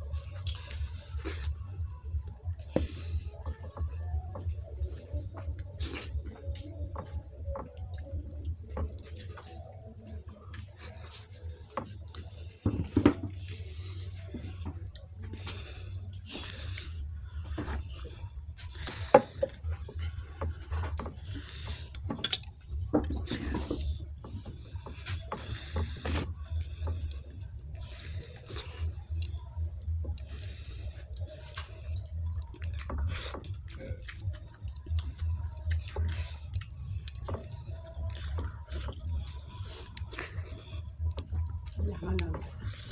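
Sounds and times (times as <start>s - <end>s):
person chewing wet food: 0.0s - 42.9s.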